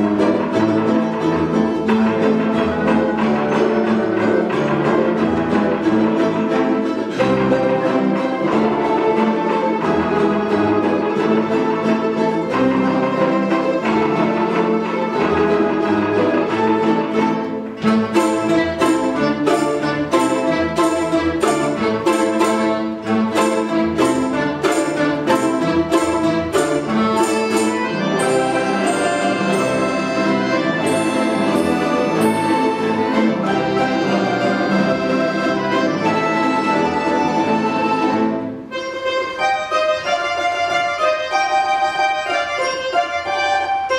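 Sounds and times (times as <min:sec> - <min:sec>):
folk instrument ensemble playing: 0:00.0 - 0:43.9.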